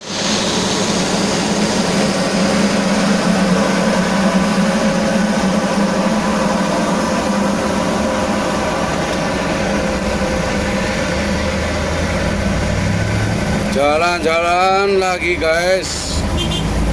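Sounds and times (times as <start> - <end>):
vehicle engine running: 0.0 - 16.9.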